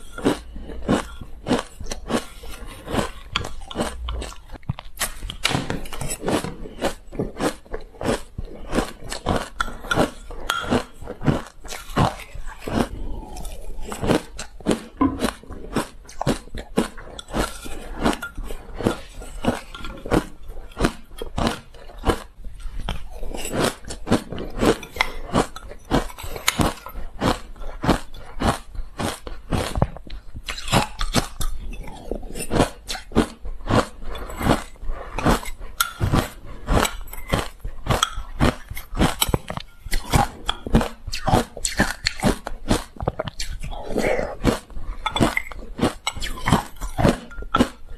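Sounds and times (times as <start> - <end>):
crushed ice crunching in mouth: 0.0 - 47.9.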